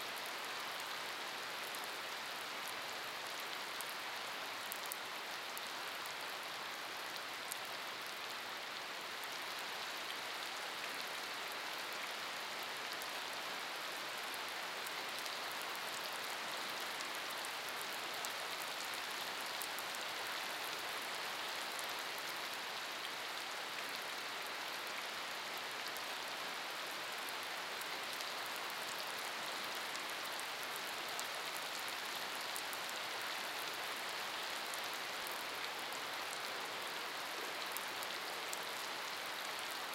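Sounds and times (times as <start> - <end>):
steady rain on puddles: 0.0 - 39.9.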